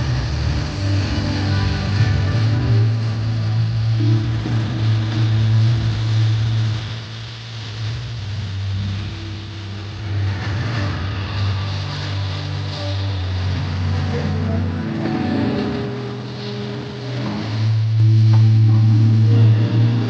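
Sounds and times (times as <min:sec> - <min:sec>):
music over loudspeakers: 0:00.0 - 0:20.0.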